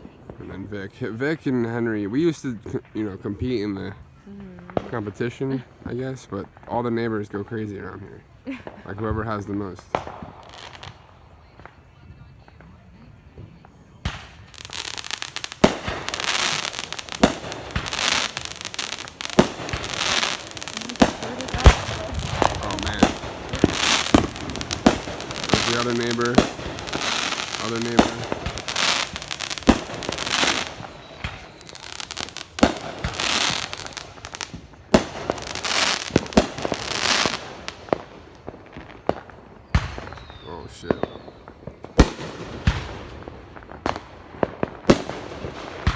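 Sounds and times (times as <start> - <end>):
fireworks booms: 0.0 - 45.9
fireworks crackling: 0.0 - 45.9.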